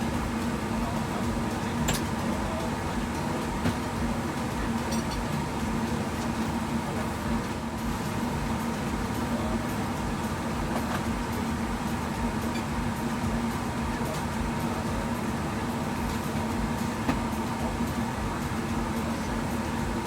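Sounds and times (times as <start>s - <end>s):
airliner cabin noise: 0.0s - 20.0s
constant low hum: 0.0s - 20.0s.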